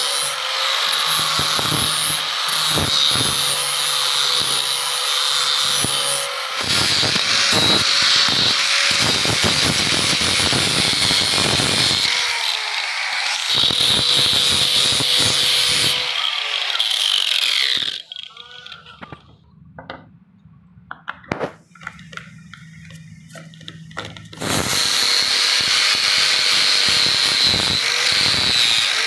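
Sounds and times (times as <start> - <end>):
angle grinder motor whine: 0.0 - 19.3, 24.4 - 29.0.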